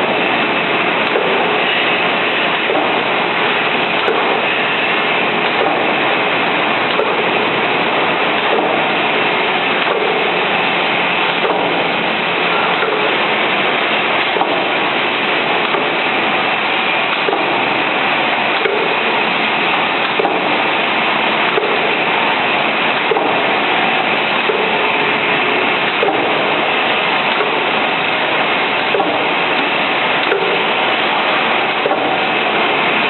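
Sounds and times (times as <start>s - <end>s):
machine running: 0.0s - 33.0s.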